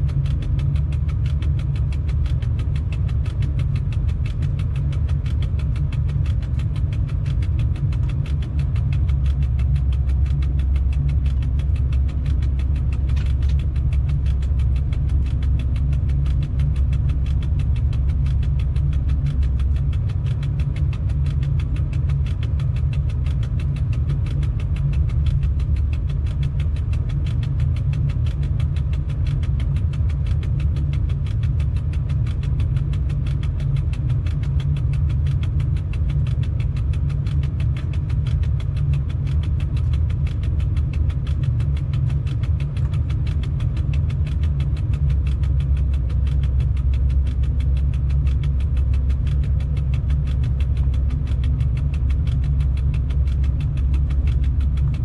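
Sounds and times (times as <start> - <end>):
low rumble of running train: 0.0 - 55.0.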